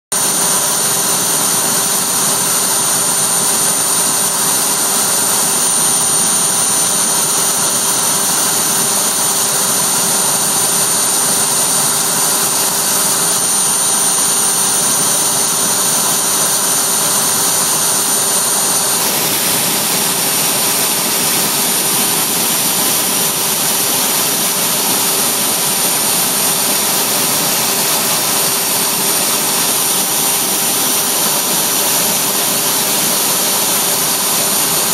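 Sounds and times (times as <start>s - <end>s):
router spindle whine: 0.2s - 34.9s.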